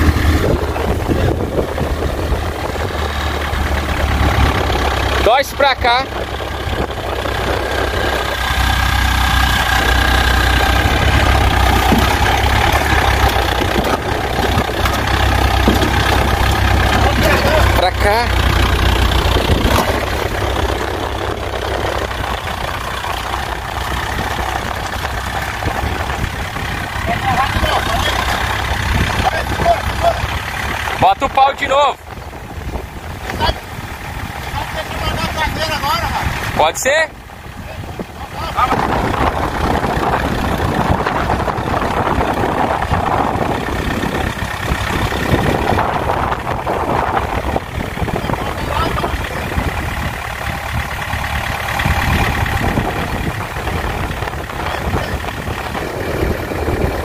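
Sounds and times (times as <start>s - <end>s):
tractor diesel engine running: 0.0s - 57.0s
wheels churning through mud and water: 0.0s - 57.0s.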